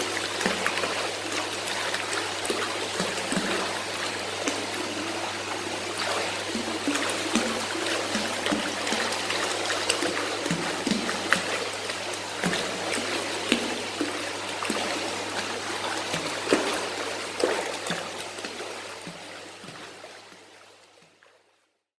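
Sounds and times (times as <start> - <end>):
water trickling and bubbling: 0.0 - 21.6.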